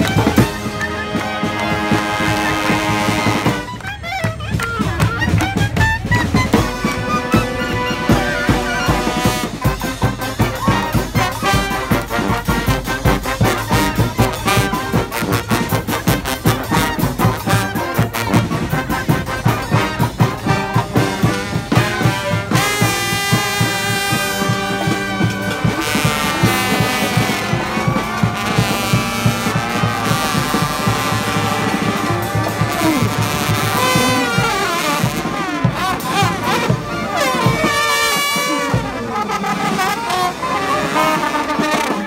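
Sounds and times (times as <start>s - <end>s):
drum beat: 0.0s - 3.7s, 4.8s - 40.0s
brass band playing: 0.0s - 42.0s.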